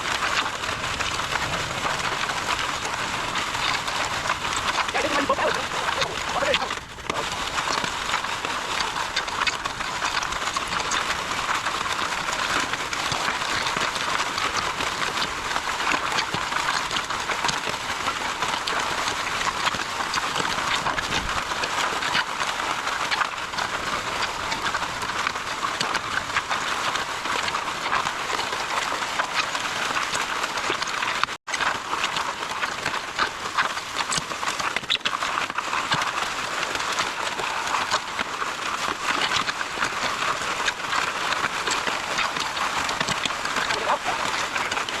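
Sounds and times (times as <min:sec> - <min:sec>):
concrete mixer churning and rattling: 0:00.0 - 0:45.0.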